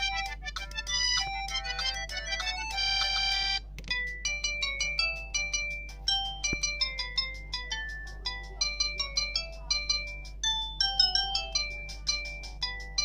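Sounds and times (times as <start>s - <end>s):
phone ringtone chiming tune: 0.0s - 13.0s
ringtone melody of short notes: 0.0s - 13.0s.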